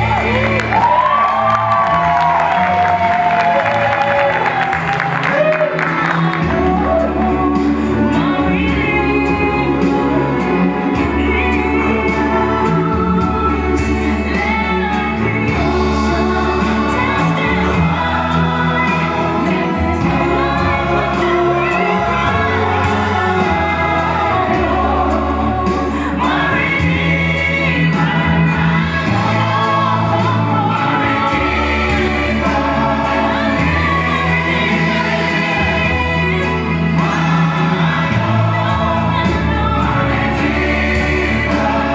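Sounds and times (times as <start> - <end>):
gospel choir singing: 0.0 - 41.9.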